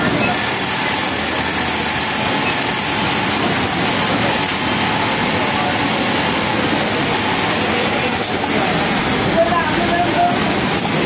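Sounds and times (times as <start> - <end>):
din of other machines: 0.0 - 11.0
sewing machine whirring: 0.0 - 11.0.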